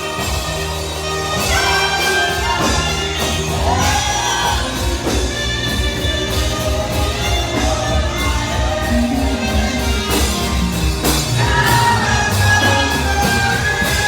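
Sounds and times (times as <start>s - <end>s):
live band worship music: 0.0s - 14.0s.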